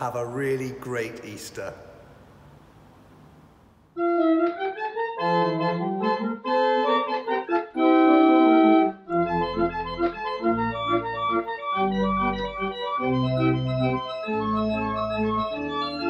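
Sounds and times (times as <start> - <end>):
pipe organ playing chords: 0.0 - 16.0.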